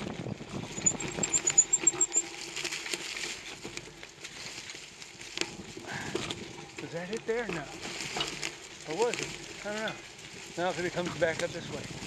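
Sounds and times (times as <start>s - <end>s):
bicycle tyres on dirt trail: 0.0s - 12.0s
bike knocking and rattling: 0.0s - 12.0s.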